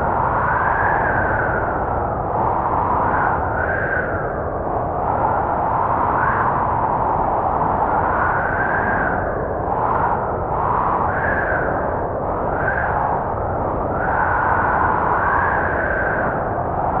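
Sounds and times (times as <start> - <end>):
howling blizzard wind: 0.0 - 17.0.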